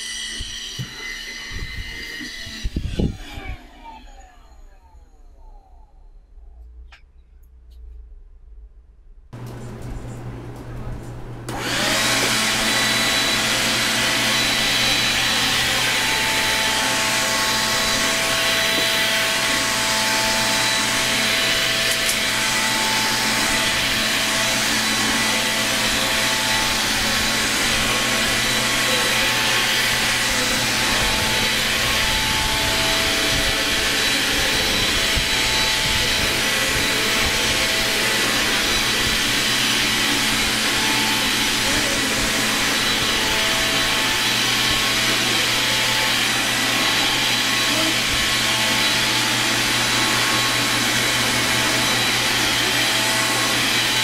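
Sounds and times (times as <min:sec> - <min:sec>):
vacuum nozzle on floor: 0:00.0 - 0:04.6, 0:11.5 - 0:54.0
vacuum cleaner high whine: 0:00.0 - 0:06.1, 0:09.4 - 0:54.0.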